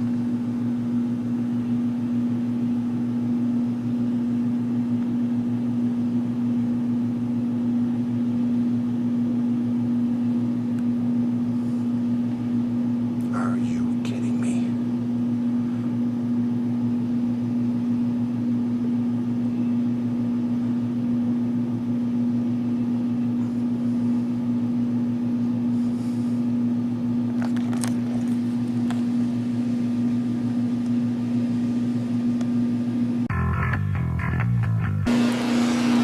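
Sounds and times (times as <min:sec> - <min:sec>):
machine electrical hum: 0:00.0 - 0:27.4, 0:28.0 - 0:36.0.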